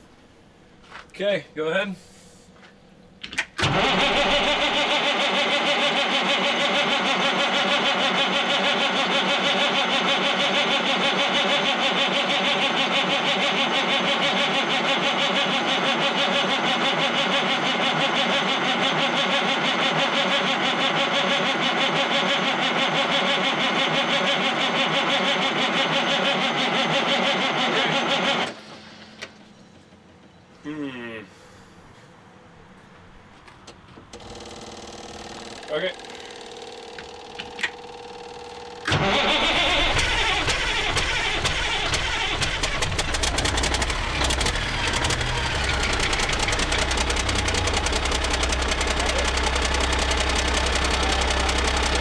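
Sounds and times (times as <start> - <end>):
diesel engine cranking on starter: 3.4 - 30.0, 34.1 - 52.0.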